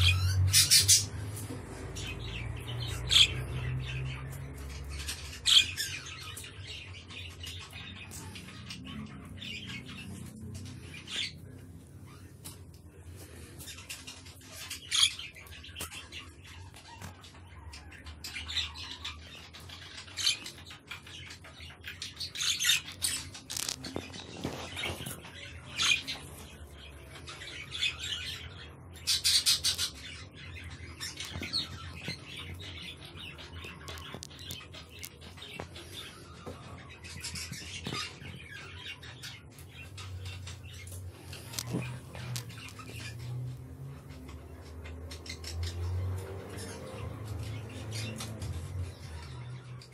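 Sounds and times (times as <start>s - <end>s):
budgerigars chirping and chattering: 0.0s - 49.9s.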